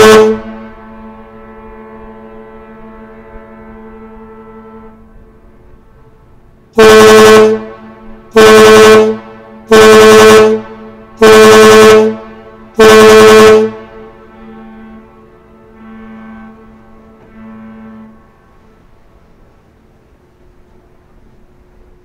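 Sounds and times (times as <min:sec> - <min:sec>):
ship whistle blasts: 0:00.0 - 0:19.5.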